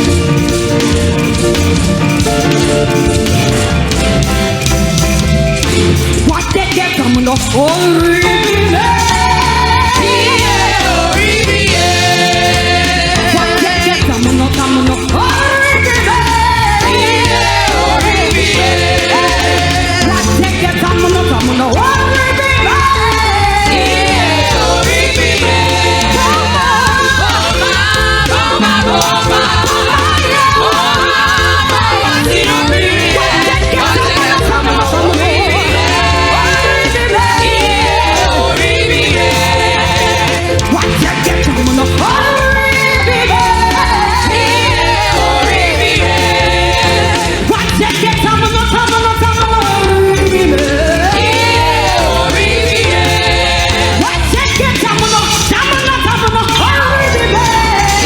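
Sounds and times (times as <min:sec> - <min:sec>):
bass line: 0:00.0 - 0:58.0
choir singing gospel: 0:00.0 - 0:58.0
drums: 0:00.0 - 0:58.0
live band playing: 0:00.0 - 0:58.0.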